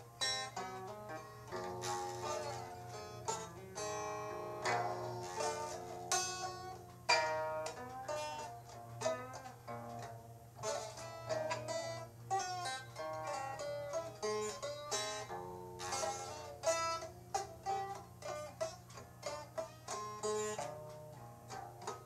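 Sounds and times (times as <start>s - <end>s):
plucked string instrument notes: 0.0s - 22.0s
steady low hum: 0.0s - 22.0s.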